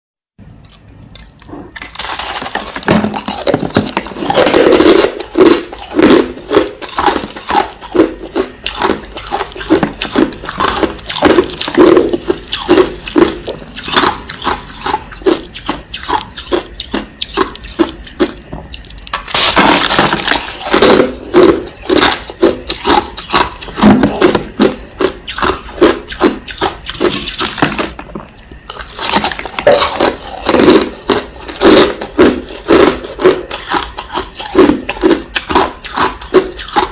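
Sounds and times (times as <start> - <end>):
crushed ice being chewed: 0.6 - 36.9.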